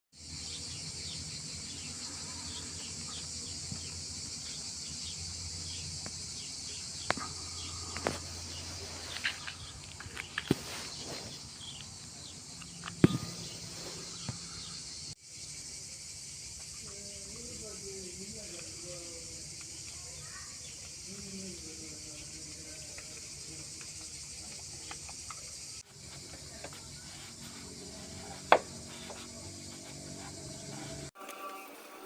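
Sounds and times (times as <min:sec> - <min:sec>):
high-pitched hiss: 0:00.2 - 0:32.0.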